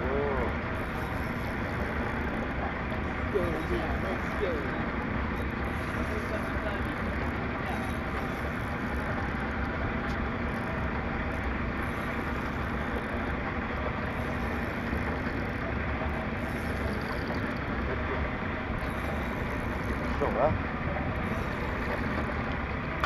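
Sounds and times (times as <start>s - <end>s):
boat engine drone: 0.0s - 23.0s
water: 0.0s - 23.0s.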